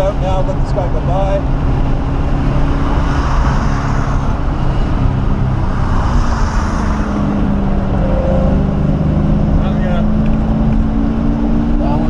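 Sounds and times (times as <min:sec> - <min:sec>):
car engine running hard: 0:00.0 - 0:12.0
road and wind noise: 0:00.0 - 0:12.0.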